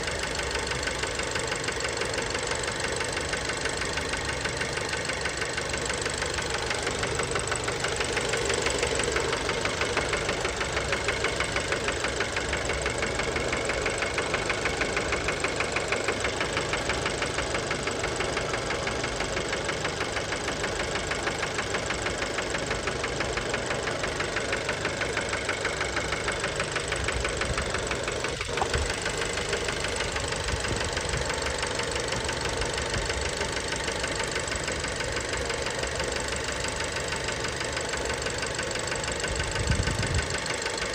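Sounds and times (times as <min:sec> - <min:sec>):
car engine knocking: 0:00.0 - 0:40.9.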